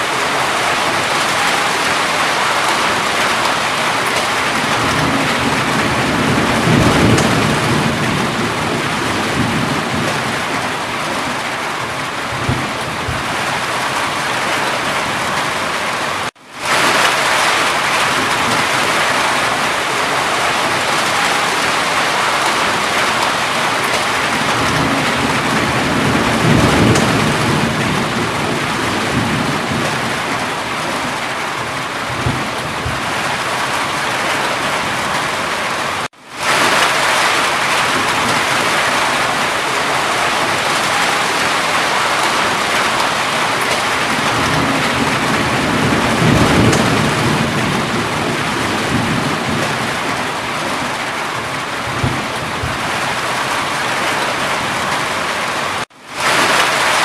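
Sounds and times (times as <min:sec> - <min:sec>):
heavy rain: 0:00.0 - 0:57.0
distant thunder rolls: 0:00.2 - 0:11.5, 0:12.2 - 0:15.5, 0:16.7 - 0:35.5, 0:36.4 - 0:54.9.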